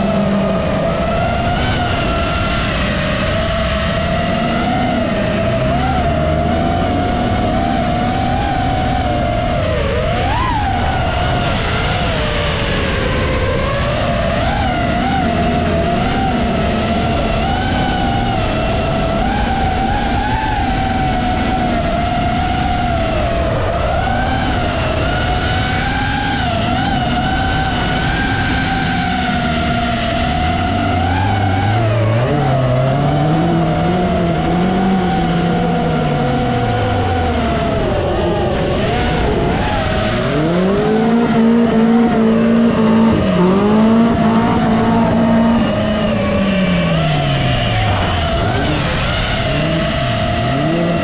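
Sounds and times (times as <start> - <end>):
drone motors whining: 0.0 - 51.0
race car engine revving: 0.0 - 51.0.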